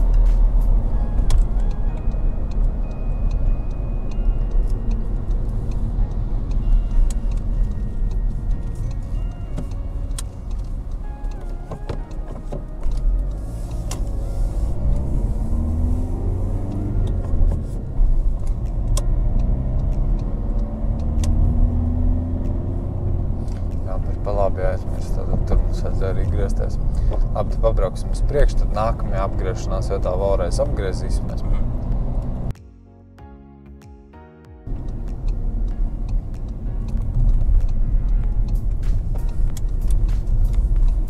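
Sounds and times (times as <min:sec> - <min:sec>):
car engine and road rumble: 0:00.0 - 0:32.6, 0:34.6 - 0:41.0.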